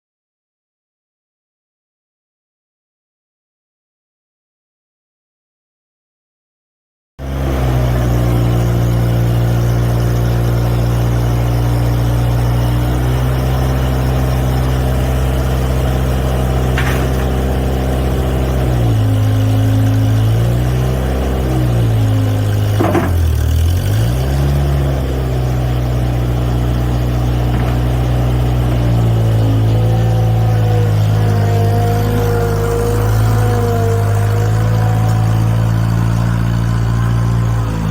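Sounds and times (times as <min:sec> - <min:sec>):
skid steer engine running: 0:07.2 - 0:37.9.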